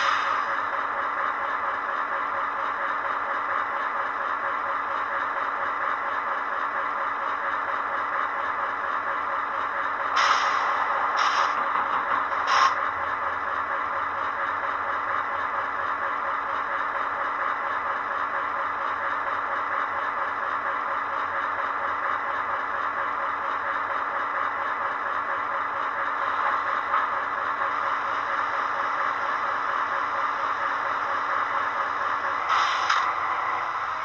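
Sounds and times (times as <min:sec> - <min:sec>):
recorded diesel engine idling: 0:00.0 - 0:34.0.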